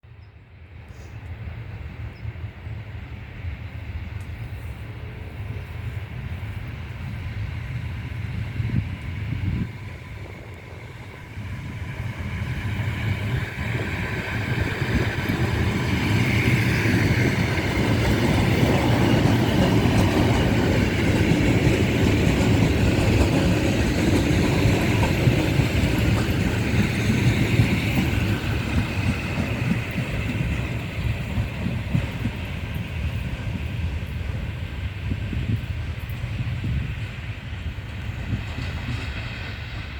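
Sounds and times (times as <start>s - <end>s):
electric train running past: 0.1s - 39.9s.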